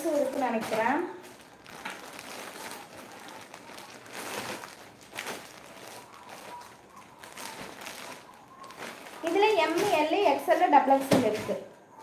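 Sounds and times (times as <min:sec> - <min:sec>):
plastic bags rustling and crinkling: 0:00.0 - 0:12.0.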